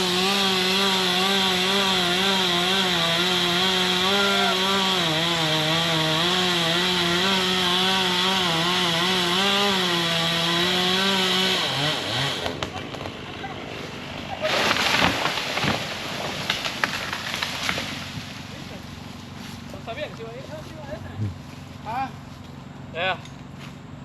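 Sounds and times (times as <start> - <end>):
chainsaw cutting tree: 0.0 - 19.9.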